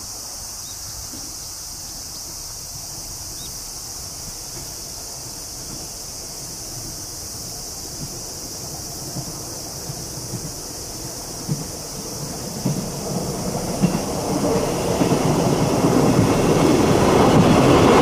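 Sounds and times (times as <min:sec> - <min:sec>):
insect chorus: 0:00.0 - 0:18.0
train rumbling on bridge: 0:00.0 - 0:18.0.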